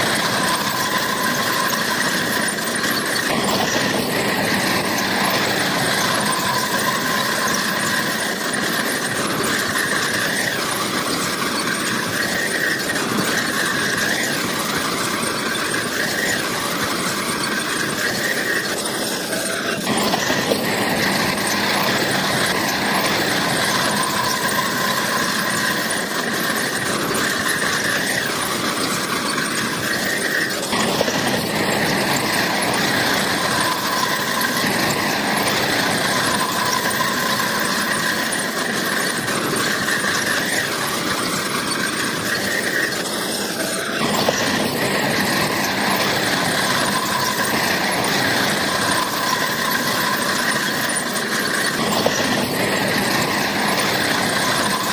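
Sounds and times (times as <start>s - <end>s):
bulldozer engine: 0.0s - 54.9s
steel crawler tracks squealing: 0.0s - 54.9s.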